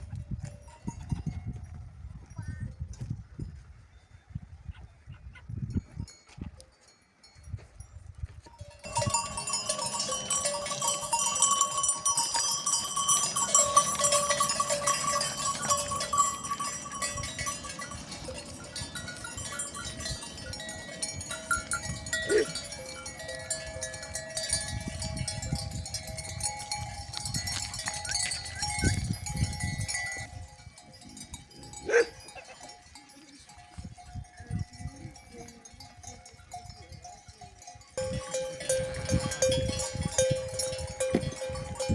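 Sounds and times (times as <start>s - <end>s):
livestock neck bells clanking: 0.0s - 3.7s, 5.6s - 41.9s.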